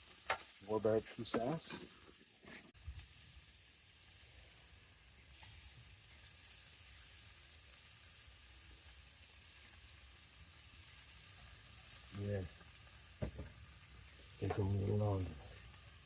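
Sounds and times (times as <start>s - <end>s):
burger patties sizzling on a grill: 0.0s - 16.0s.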